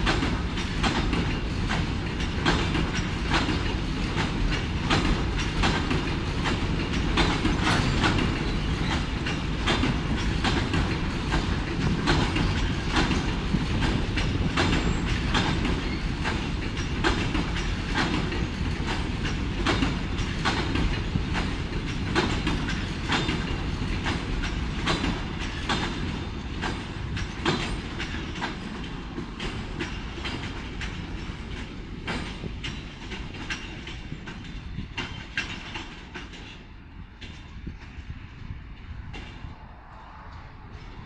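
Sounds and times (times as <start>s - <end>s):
wheels clacking over rail joints: 0.0s - 38.1s
freight train rolling past: 0.0s - 41.0s.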